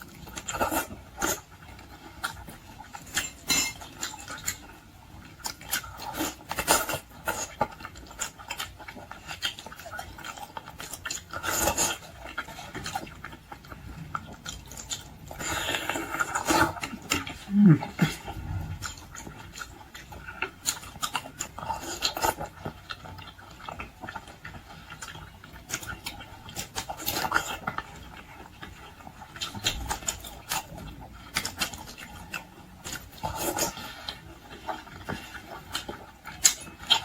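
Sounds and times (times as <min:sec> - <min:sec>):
chewing with wet smacks: 0:00.0 - 0:37.0.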